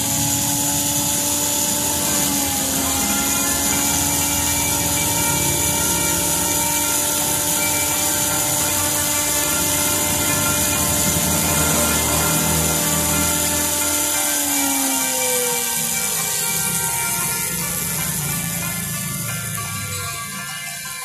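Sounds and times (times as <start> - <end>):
rotary tool whine: 0.0 - 21.0.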